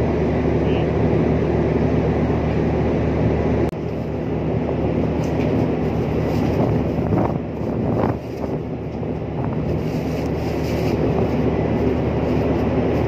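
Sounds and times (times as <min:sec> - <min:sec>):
ship machinery drone: 0:00.0 - 0:13.0.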